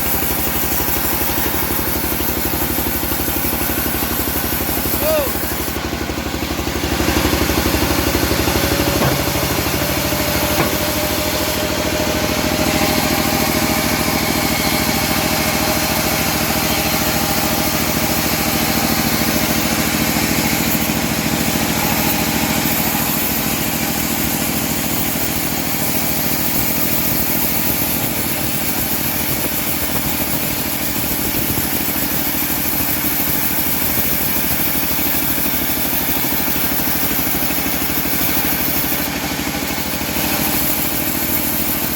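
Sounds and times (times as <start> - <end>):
bandsaw mill running: 0.0 - 41.9.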